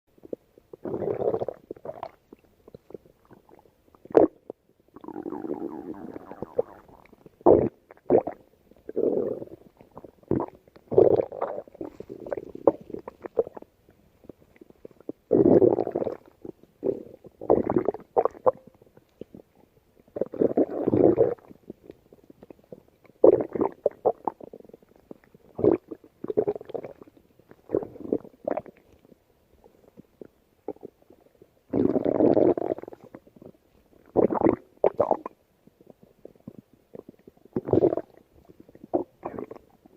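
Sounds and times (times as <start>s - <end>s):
stomach growling and gurgling: 0.1s - 39.9s.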